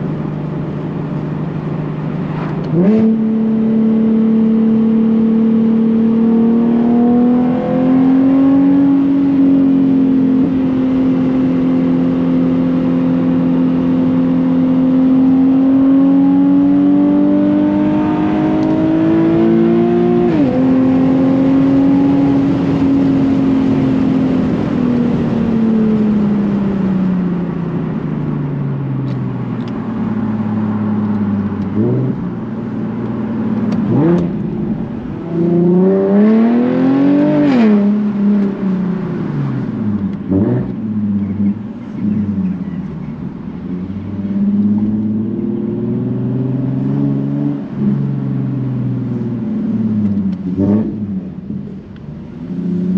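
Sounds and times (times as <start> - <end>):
car engine revving: 0.7 - 52.9.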